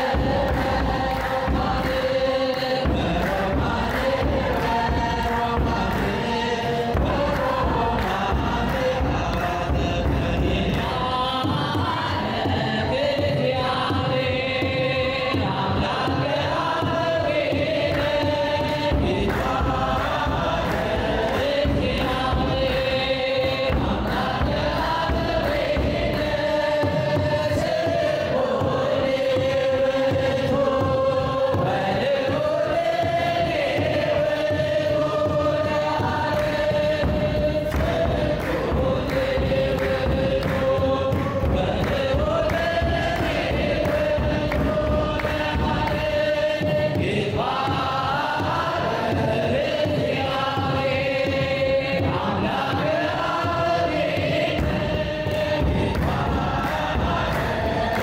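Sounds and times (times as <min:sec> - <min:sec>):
hand drum strokes: 0:00.0 - 0:58.0
hand-claps: 0:00.0 - 0:58.0
lead voice singing: 0:00.0 - 0:58.0
mixed choir singing in unison: 0:00.0 - 0:58.0.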